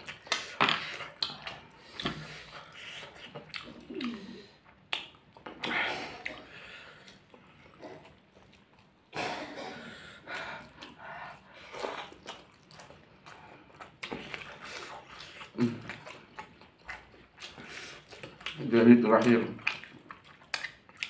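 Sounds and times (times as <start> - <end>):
wet chewing and slurping: 0.0 - 21.0.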